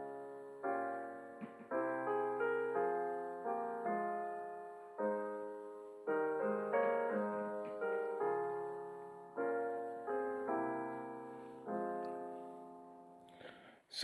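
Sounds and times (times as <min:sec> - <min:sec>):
slow solo piano chords: 0:00.0 - 0:13.5.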